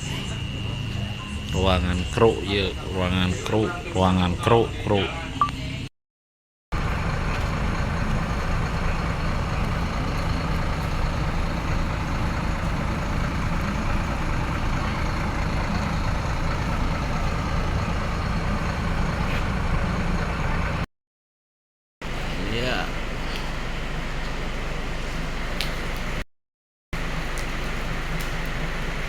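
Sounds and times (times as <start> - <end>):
diesel bus engine running: 0.0 - 5.9, 6.7 - 20.9, 22.0 - 26.2, 27.0 - 29.0.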